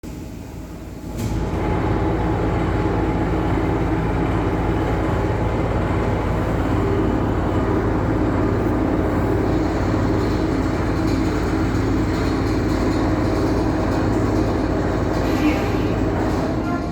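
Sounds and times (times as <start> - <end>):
train rumble and clatter: 0.1 - 16.9.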